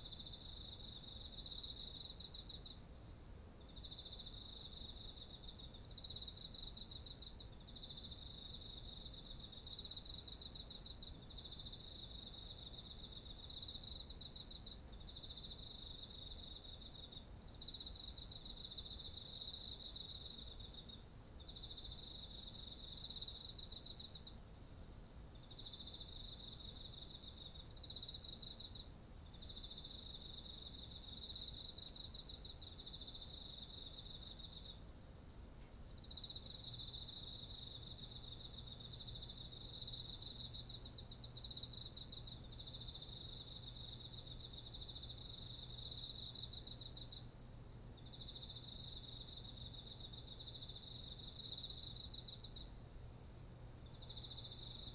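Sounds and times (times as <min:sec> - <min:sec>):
pulsing cricket trills: 0:00.0 - 0:54.9.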